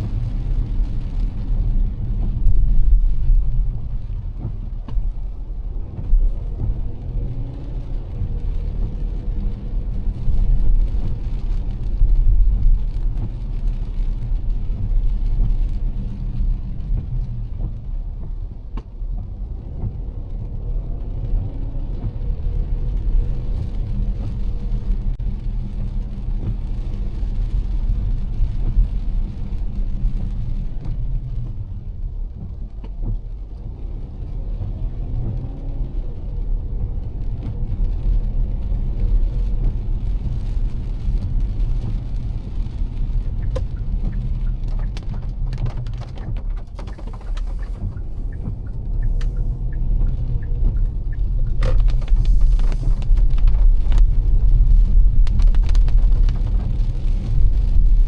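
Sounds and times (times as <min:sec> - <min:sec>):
car engine and tyres rumbling: 0:00.0 - 0:58.0
rain hiss: 0:00.0 - 0:58.0.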